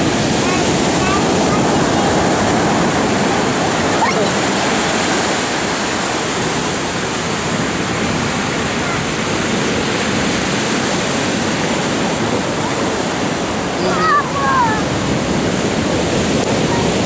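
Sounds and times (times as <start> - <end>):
storm surf breaking: 0.0 - 17.0.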